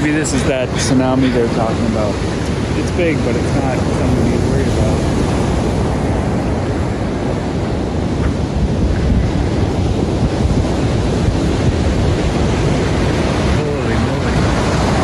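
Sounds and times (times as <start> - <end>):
ocean waves breaking: 0.0 - 15.0
wind rumbling on microphone: 0.0 - 15.0.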